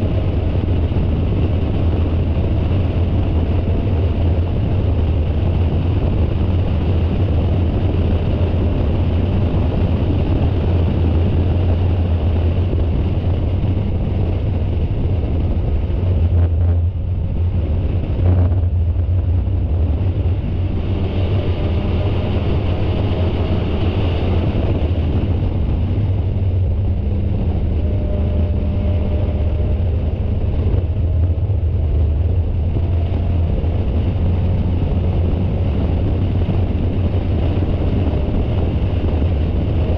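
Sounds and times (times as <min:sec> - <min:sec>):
race car engine running hard: 0:00.0 - 0:39.9
road rumble: 0:00.0 - 0:39.9
wind: 0:00.0 - 0:39.9.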